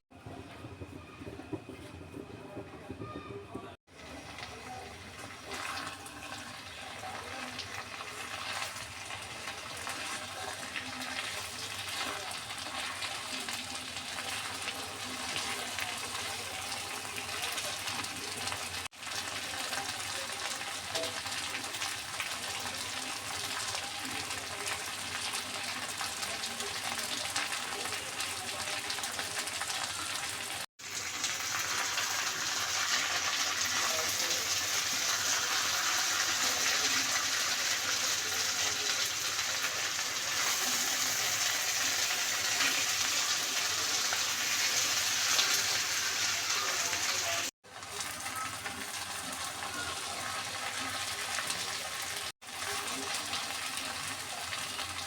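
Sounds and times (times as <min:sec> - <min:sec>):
food sizzling in hot oil: 0:03.9 - 0:55.0.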